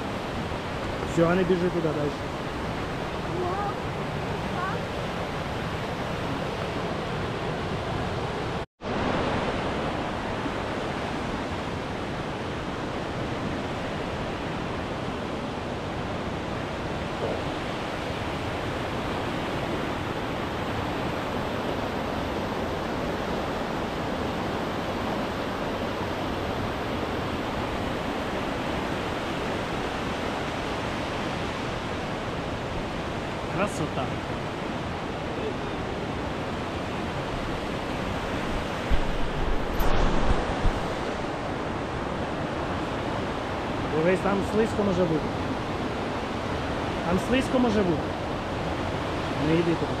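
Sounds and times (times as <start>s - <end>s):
fast-flowing water rushing: 0.0s - 50.0s.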